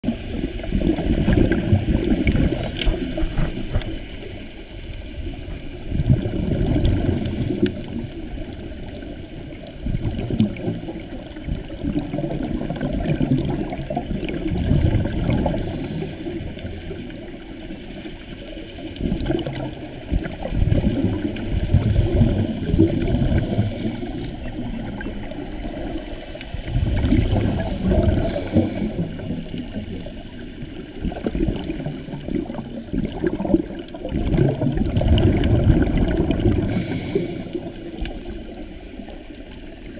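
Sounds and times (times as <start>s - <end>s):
underwater bubbles rumbling: 0.0s - 39.9s.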